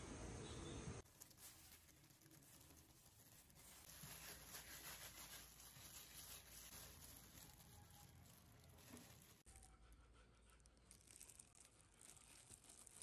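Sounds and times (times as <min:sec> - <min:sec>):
plastic gloves rustling: 0:01.0 - 0:09.5, 0:10.7 - 0:13.0.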